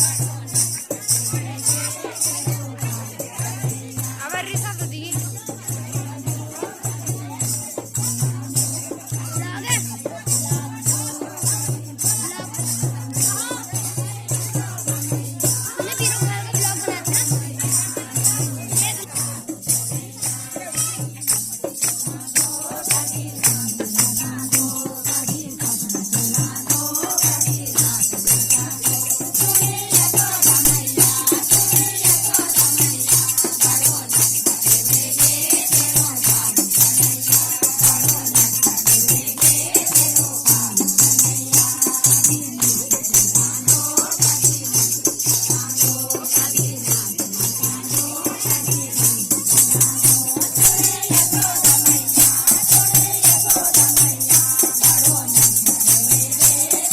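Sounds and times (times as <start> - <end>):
fast steady beat: 0.0 - 56.9
jingling shaken percussion: 0.0 - 56.9
voices singing devotional song: 0.0 - 56.9.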